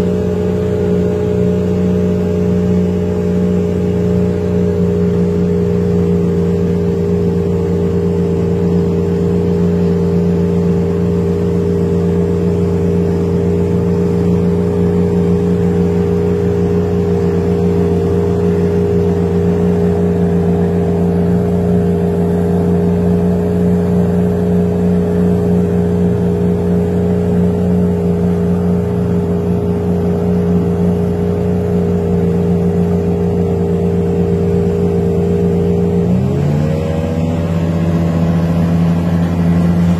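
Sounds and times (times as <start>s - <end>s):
boat diesel engine droning: 0.0s - 39.9s.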